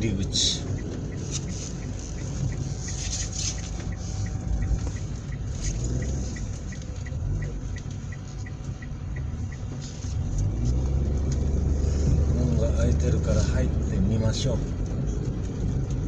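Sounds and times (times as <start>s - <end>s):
car engine rumbling: 0.0s - 16.0s
turn signal ticking: 0.0s - 16.0s.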